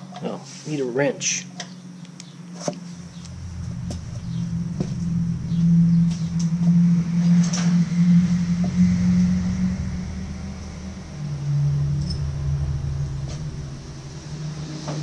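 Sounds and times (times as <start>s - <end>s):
low motor rumble: 1.8s - 15.0s.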